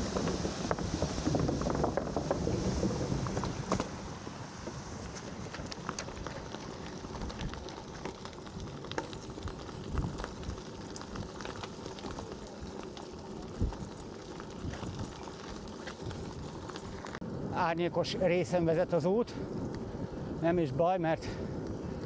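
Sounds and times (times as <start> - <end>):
bicycle tyres crunching on gravel: 0.0 - 22.0.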